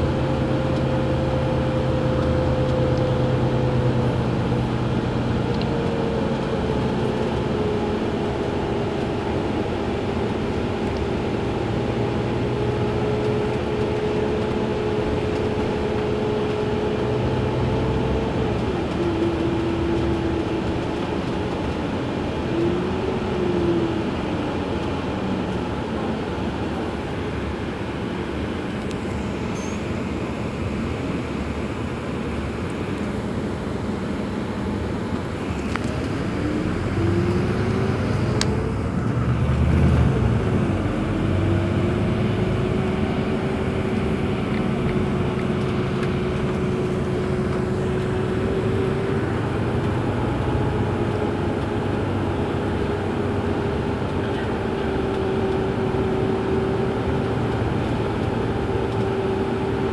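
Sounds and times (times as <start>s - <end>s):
bus engine idling with whine: 0.0s - 59.9s.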